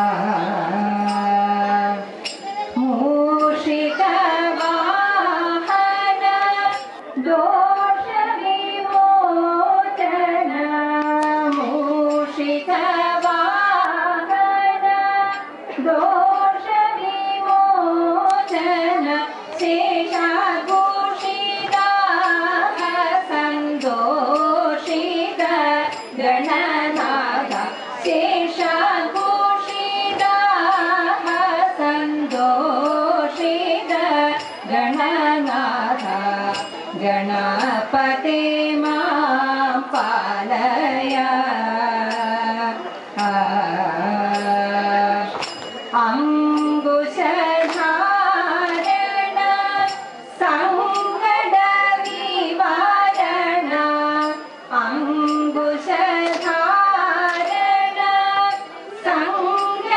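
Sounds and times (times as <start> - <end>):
women singing: 0.0 - 59.9.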